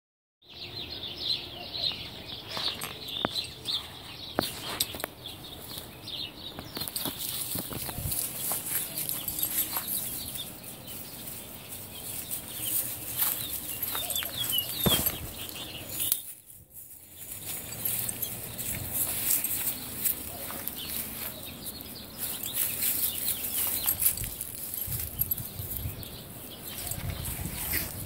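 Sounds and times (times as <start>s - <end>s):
dogs rustling in grass: 2.4s - 28.0s.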